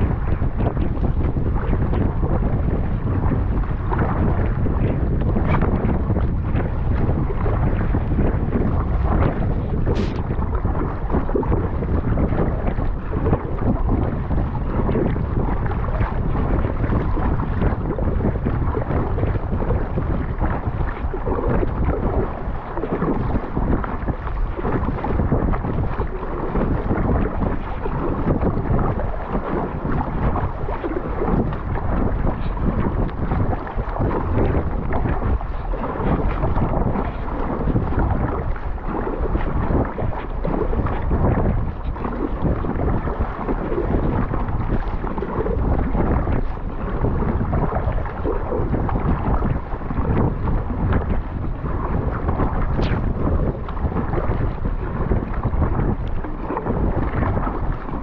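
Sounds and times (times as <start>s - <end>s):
water splashing around kayak: 0.0s - 58.0s
wind buffeting microphone: 0.0s - 58.0s.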